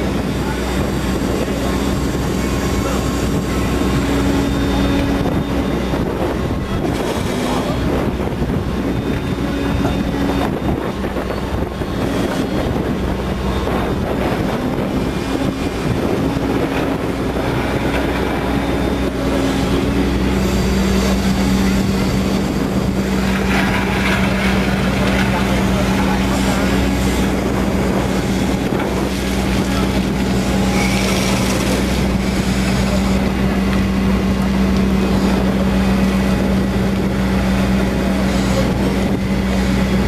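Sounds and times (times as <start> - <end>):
excavator diesel engine running: 0.0 - 40.0
hydraulics working: 0.0 - 40.0.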